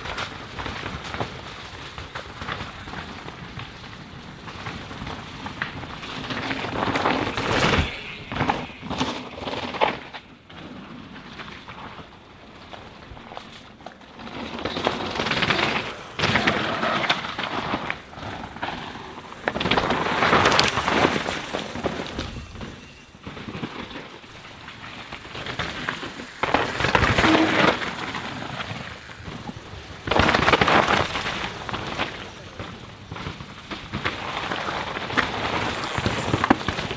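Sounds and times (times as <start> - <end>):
bike tyres tearing through mud: 0.0 - 36.9
clattering bike suspension: 0.0 - 36.9
rattling bike chain: 2.2 - 36.9.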